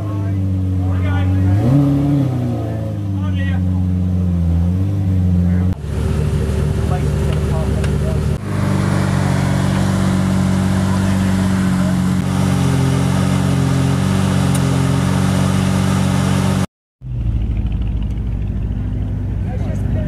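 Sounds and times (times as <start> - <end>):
car engine running steadily: 0.0 - 20.0.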